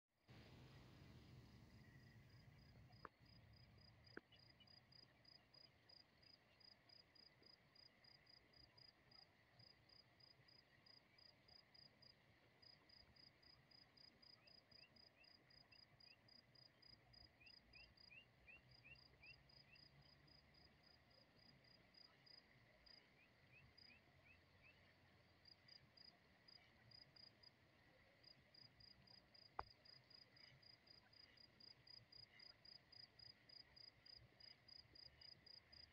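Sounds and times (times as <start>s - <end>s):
cricket chirping: 1.0s - 35.9s.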